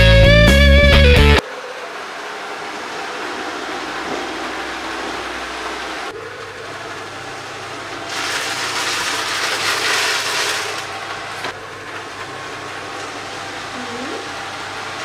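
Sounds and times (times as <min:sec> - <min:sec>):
robot vacuum running: 0:01.4 - 0:15.0.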